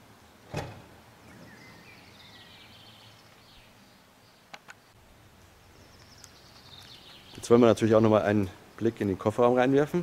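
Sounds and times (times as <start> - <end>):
small birds chirping: 1.0 - 9.8.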